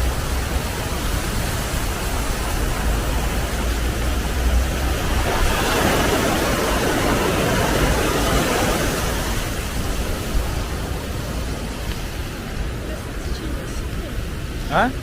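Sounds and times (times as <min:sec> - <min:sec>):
small waterfall rushing: 0:00.0 - 0:15.0
wind buffeting microphone: 0:00.0 - 0:15.0.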